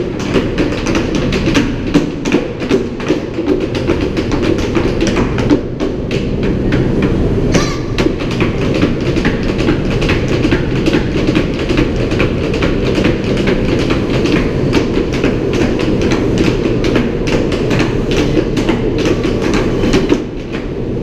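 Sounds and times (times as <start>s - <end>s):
steady low rumble: 0.0s - 21.0s
tap shoes on wooden boards: 0.0s - 21.0s.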